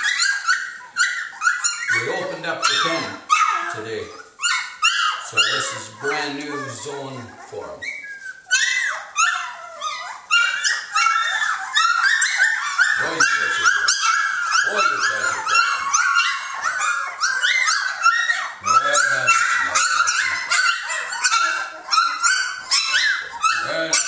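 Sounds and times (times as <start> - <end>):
puppies whining and yelping: 0.0 - 24.0.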